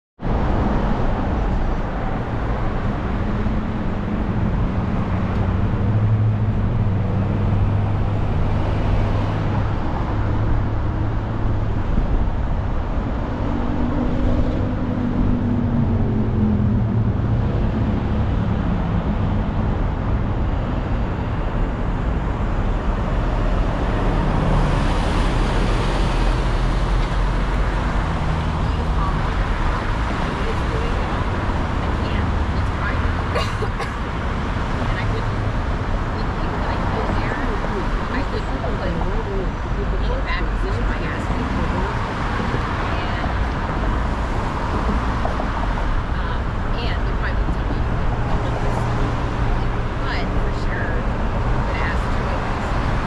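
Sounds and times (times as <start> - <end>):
car engine hum: 0.2 - 53.0
tyre and road noise: 0.2 - 53.0.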